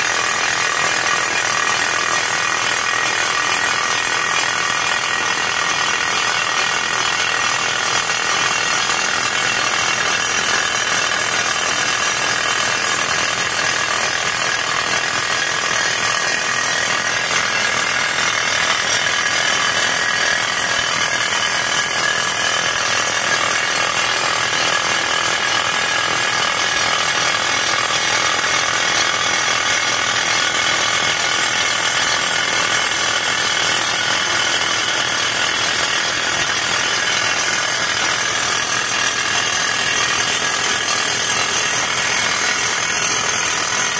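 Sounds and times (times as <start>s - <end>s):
rock drill hammering: 0.0s - 43.9s.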